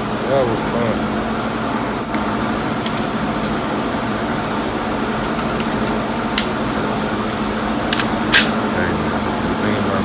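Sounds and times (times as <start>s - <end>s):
ventilation fans humming: 0.0s - 10.0s.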